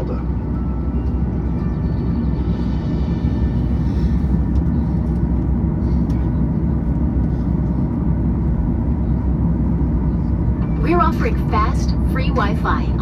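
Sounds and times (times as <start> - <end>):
jet engines idling low rumble: 0.0 - 13.0.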